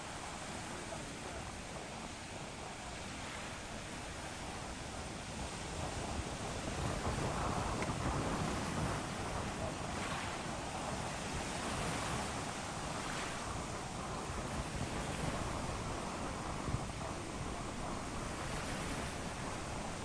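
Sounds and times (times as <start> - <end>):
sea surf washing on beach: 0.0 - 20.0
wind buffeting microphone: 0.0 - 20.0.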